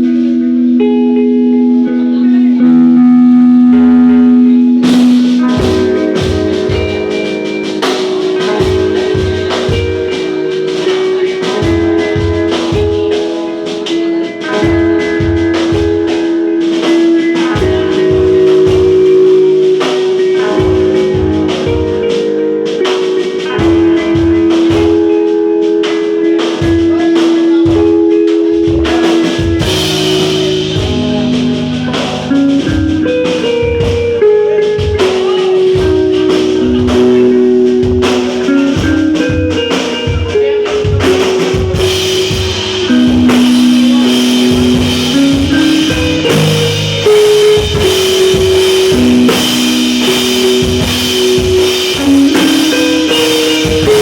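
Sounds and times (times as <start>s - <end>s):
held melodic notes: 0.0s - 54.0s.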